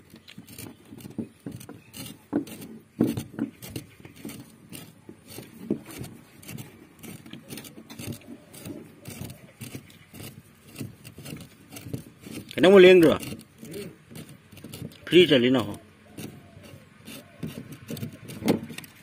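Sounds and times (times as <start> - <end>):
light knocks taps and scrapes: 0.0 - 19.0.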